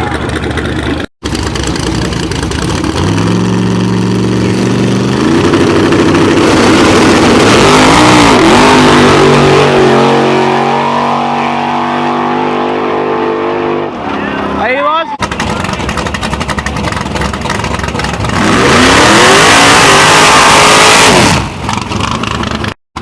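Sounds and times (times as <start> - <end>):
racing car engine accelerating: 1.2 - 14.6, 15.2 - 22.2.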